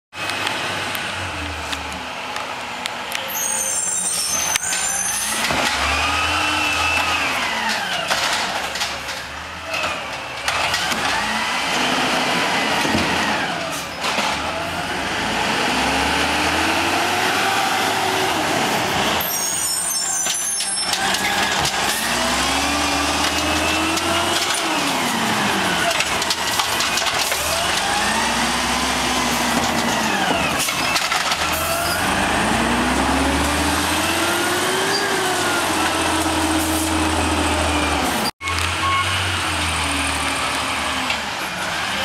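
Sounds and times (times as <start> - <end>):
garbage truck engine: 0.1 - 42.0.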